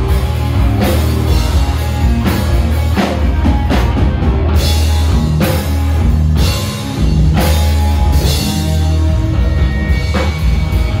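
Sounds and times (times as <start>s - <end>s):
bass guitar: 0.0s - 11.0s
drum kit: 0.0s - 11.0s
electric guitars: 0.0s - 11.0s.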